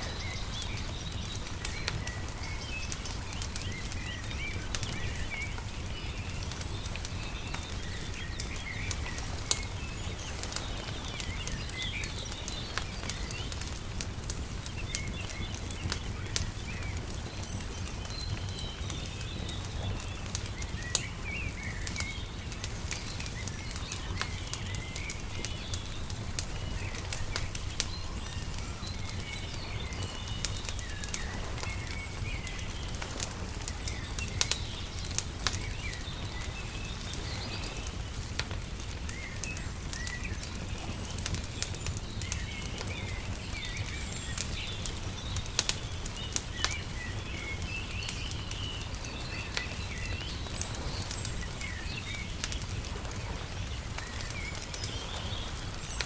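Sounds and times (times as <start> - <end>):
small birds chirping: 0.0 - 56.0
wood fire crackling and popping: 0.0 - 56.0.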